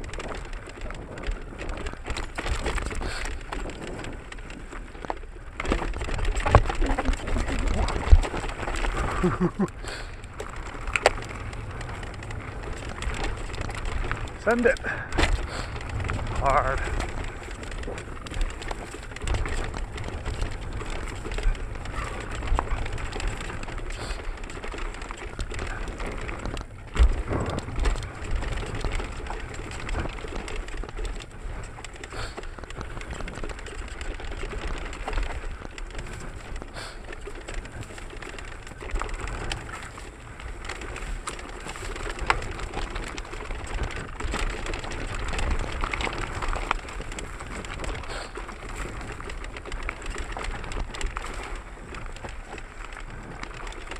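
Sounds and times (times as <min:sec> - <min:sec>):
bike knocking on roots: 0:00.0 - 0:53.9
bike rattling over bumps: 0:00.0 - 0:53.9
bike tyres on dirt: 0:00.0 - 0:53.9.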